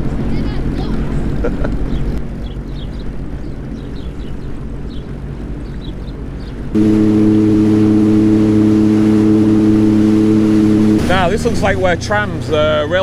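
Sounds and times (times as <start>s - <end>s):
jet ski engine: 0.0s - 13.0s.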